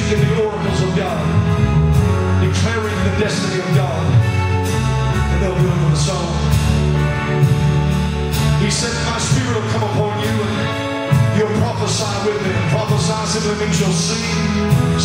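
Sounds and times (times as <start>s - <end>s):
praise band music: 0.0s - 15.0s.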